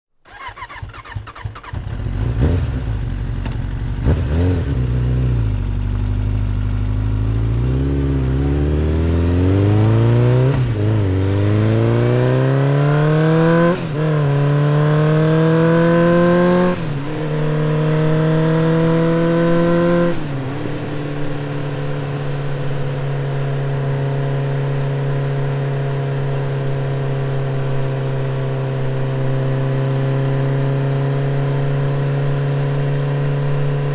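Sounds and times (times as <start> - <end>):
motorcycle engine revving and accelerating: 0.3 - 33.9.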